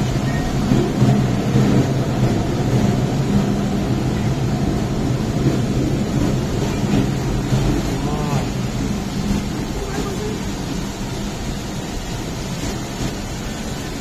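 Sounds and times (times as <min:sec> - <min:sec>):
rain falling: 0:00.0 - 0:14.0
running train noise: 0:00.0 - 0:14.0.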